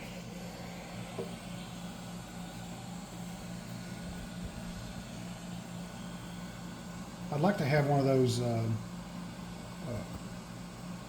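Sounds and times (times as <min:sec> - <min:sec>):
hot air gun fan humming: 0:00.0 - 0:11.0.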